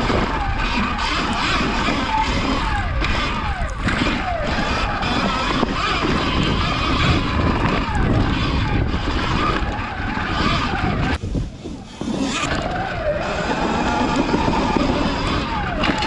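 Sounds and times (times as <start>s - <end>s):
electric motor whine: 0.0s - 16.0s
wind rushing over microphone: 0.0s - 16.0s.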